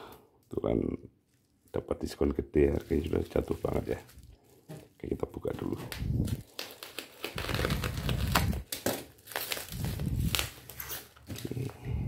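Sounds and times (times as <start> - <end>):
bubble wrap crinkling: 1.2 - 11.9.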